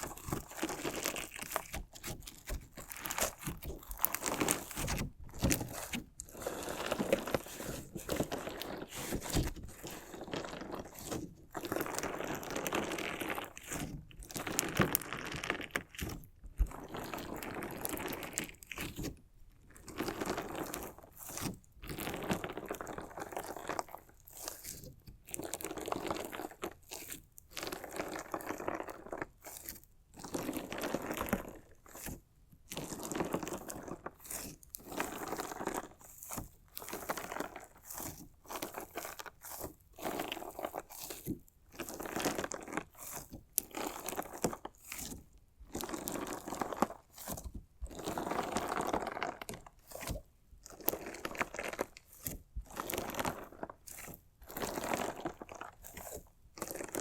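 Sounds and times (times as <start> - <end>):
crunchy slime with stones crunching: 0.0 - 57.0.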